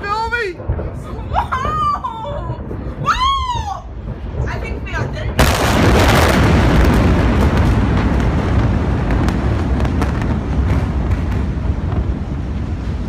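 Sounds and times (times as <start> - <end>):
deep rumbling of explosion and fire: 0.0 - 13.0.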